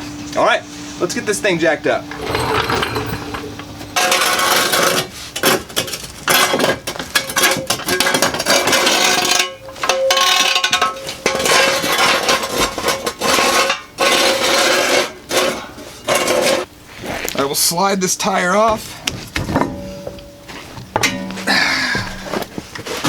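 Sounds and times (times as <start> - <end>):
metallic clattering and scraping: 2.1 - 16.7, 18.9 - 23.0.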